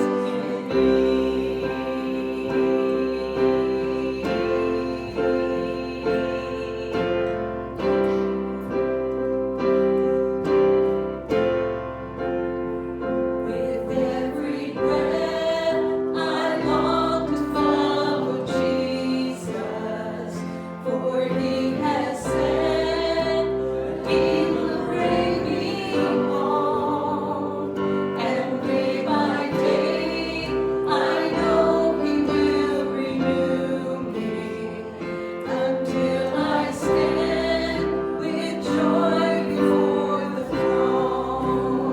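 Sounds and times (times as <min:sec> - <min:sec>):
congregation singing a hymn: 0:00.0 - 0:41.9
keyboard chords: 0:00.0 - 0:41.9.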